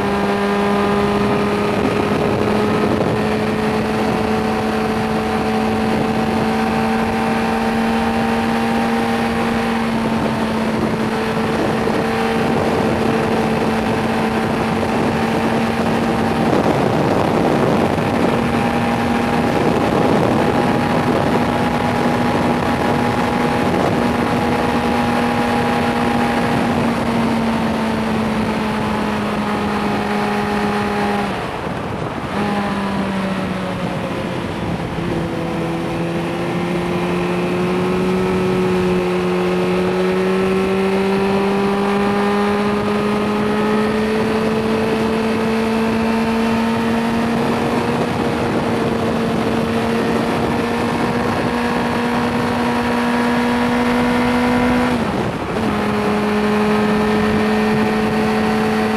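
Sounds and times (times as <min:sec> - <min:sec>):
motorcycle engine accelerating: 0:00.0 - 0:58.9
wind rush: 0:00.0 - 0:58.9.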